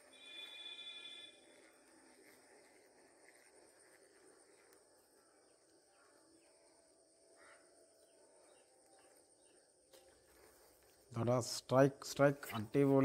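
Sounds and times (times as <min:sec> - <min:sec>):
high-pitched insect drone: 0:00.0 - 0:10.6
faint bird chirps: 0:00.0 - 0:11.1.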